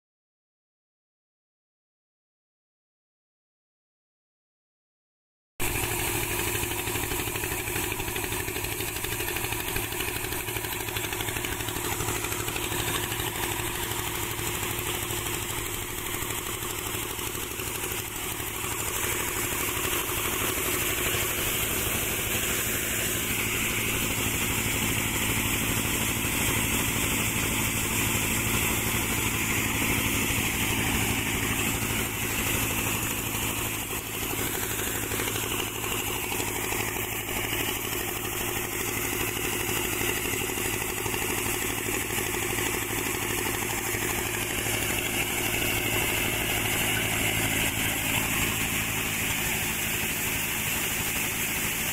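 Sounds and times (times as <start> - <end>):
engine drone: 5.6 - 51.9
thresher rushing noise: 5.6 - 51.9.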